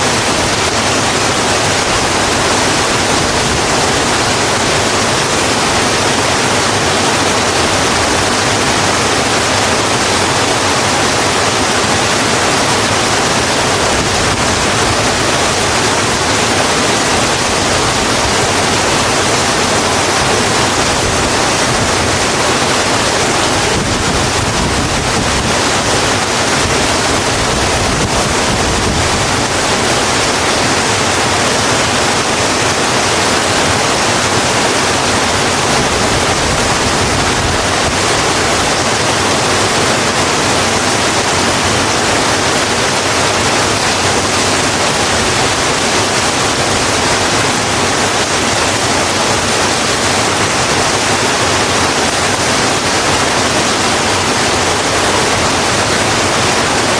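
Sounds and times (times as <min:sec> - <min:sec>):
heavy rain on road: 0:00.0 - 0:56.9.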